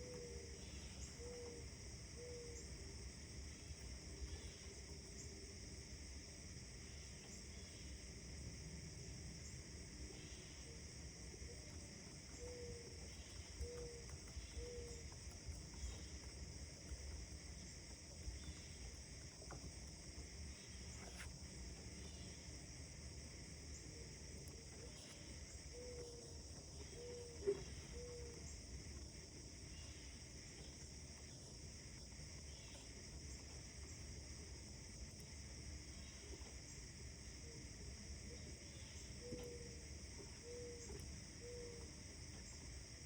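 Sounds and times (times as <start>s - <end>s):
high insect hum: 0.0s - 43.0s.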